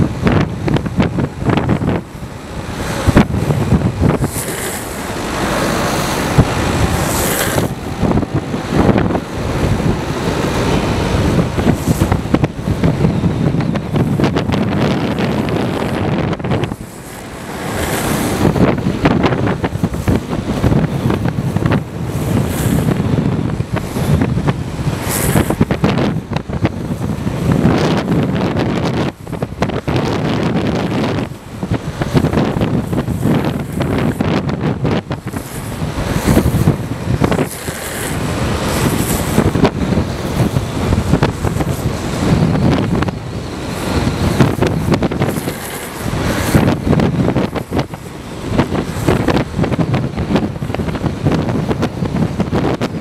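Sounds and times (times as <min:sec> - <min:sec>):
skateboard wheels rolling on asphalt: 0:00.0 - 0:53.0
wind buffeting microphone: 0:00.0 - 0:53.0.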